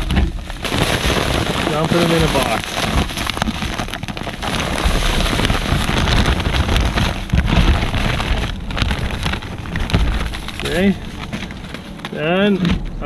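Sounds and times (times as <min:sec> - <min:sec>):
breadcrumbs pouring into a tub: 0:00.0 - 0:11.6
low rumble: 0:00.0 - 0:13.0
plastic bag crinkling: 0:00.0 - 0:13.0.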